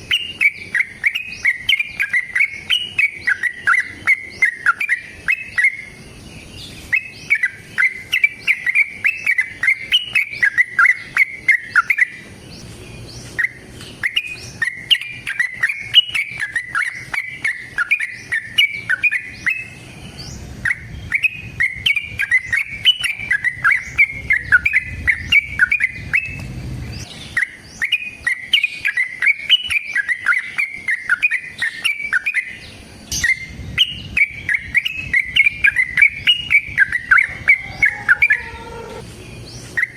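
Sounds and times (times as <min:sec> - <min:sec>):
bird singing chirpy notes: 0:00.0 - 0:39.9.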